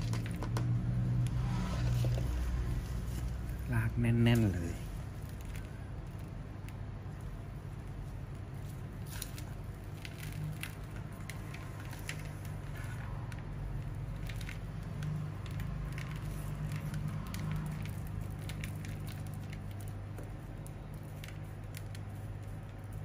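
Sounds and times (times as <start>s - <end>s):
potting mix crumbled by hand: 0.0s - 23.0s
steady low hum: 0.0s - 23.0s.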